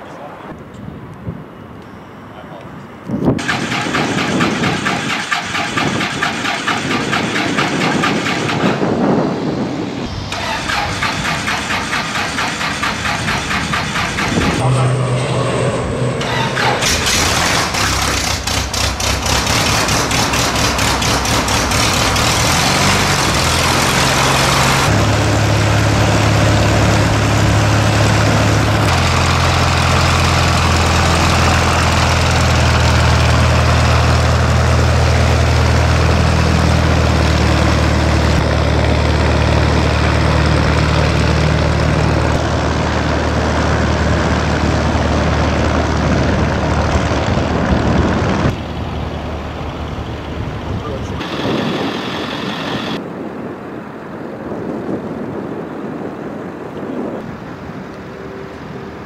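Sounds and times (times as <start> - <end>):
light aircraft engine and propeller: 1.8 - 59.0.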